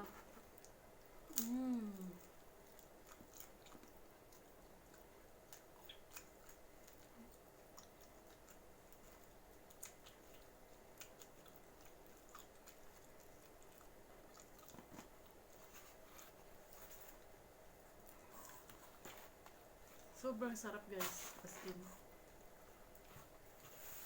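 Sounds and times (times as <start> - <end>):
chewing pizza: 0.0 - 24.0.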